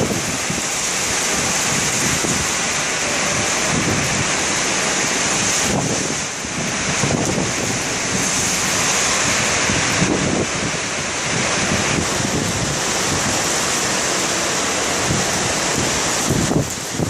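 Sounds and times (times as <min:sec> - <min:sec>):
rush of wind and water: 0:00.0 - 0:17.0
wind buffeting microphone: 0:00.0 - 0:17.0.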